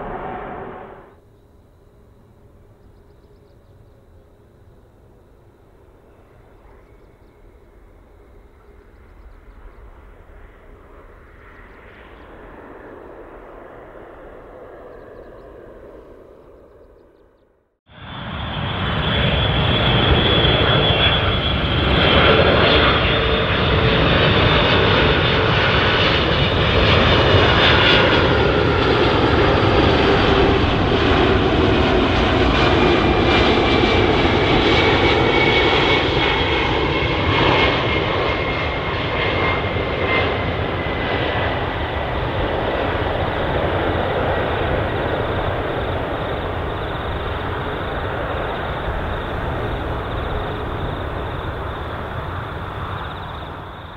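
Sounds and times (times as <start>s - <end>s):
jet engines whining overhead: 0.0s - 1.8s, 2.4s - 53.9s.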